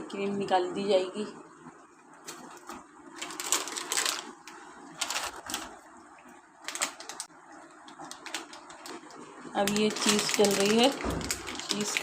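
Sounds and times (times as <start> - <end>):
plastic packet crinkling: 2.2 - 12.0.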